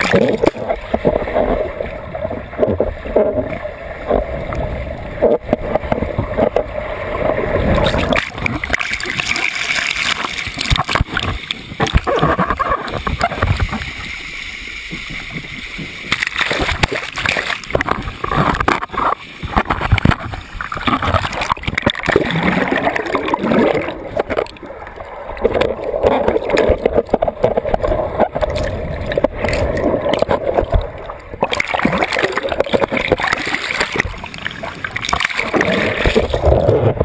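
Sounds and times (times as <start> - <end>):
water splashing and gurgling: 0.0 - 37.0.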